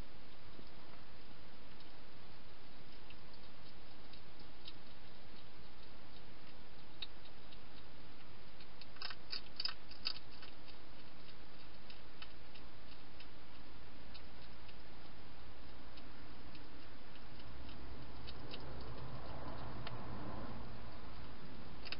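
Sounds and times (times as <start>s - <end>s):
hedgehog chewing dry food: 0.0s - 21.9s.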